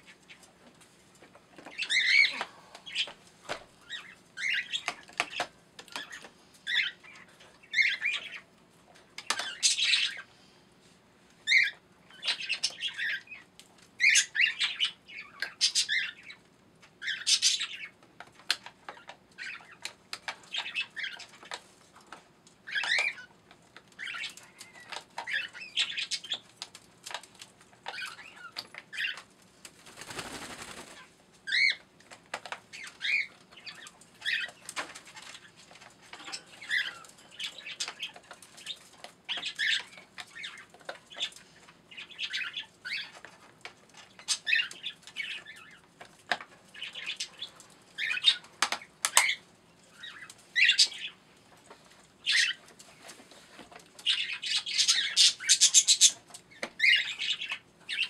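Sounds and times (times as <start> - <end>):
pet birds chirping and squawking: 1.2 - 10.6, 11.4 - 29.3, 29.9 - 58.0.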